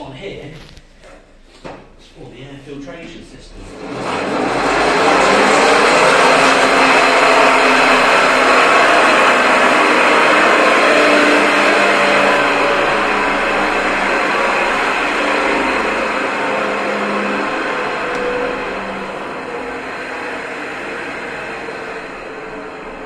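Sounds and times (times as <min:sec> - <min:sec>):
pedal-powered blower whirring: 0:03.6 - 0:23.0.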